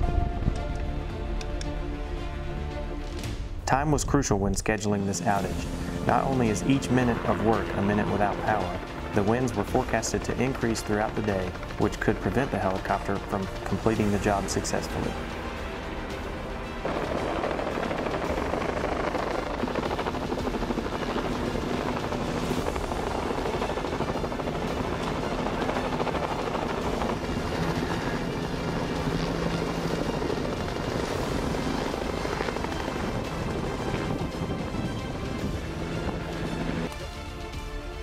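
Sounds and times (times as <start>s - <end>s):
helicopter flying overhead: 4.2s - 38.0s.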